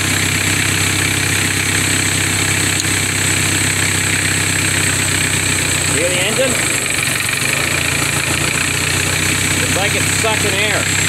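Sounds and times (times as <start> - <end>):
hand fuel pump working: 0.0 - 11.0
small diesel engine running: 0.0 - 11.0.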